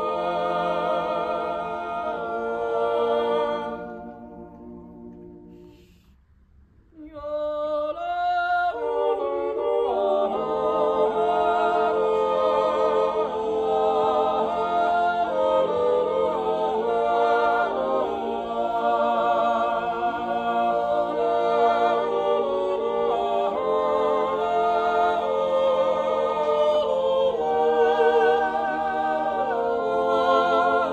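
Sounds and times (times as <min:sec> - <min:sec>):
voices holding chords: 0:00.0 - 0:05.8, 0:08.7 - 0:30.9.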